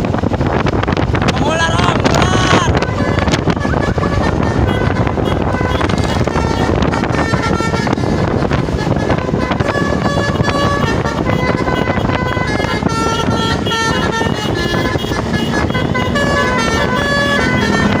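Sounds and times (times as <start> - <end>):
engine and road noise: 0.0 - 18.0
bus horn playing a melody: 2.0 - 18.0.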